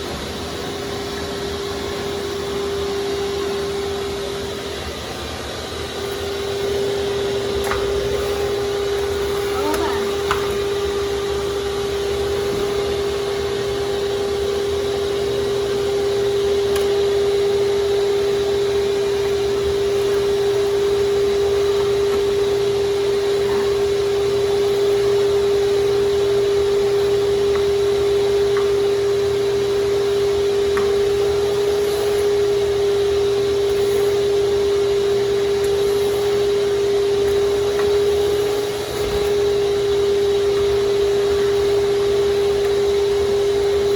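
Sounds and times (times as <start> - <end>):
shop vac motor whining: 0.0 - 43.9.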